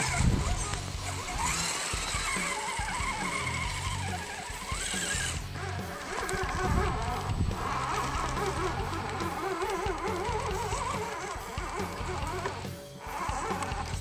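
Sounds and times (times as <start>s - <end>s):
background music: 0.0s - 14.0s
electric motor whining: 0.0s - 14.0s.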